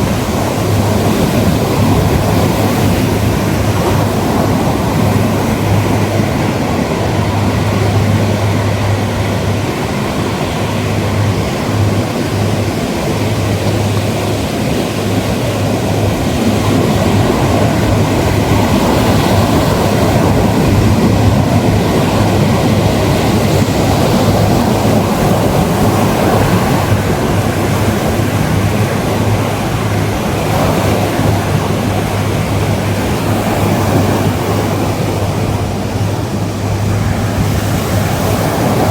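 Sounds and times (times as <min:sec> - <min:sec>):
ocean surf washing onto beach: 0:00.0 - 0:38.9.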